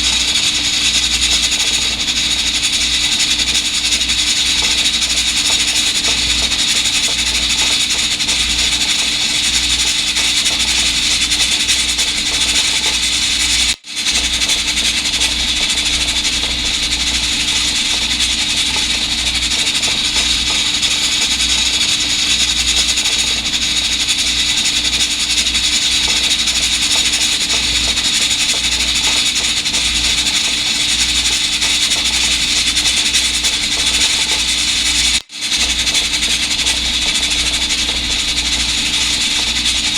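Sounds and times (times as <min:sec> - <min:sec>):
rice cooker steam hiss: 0:00.0 - 0:39.9.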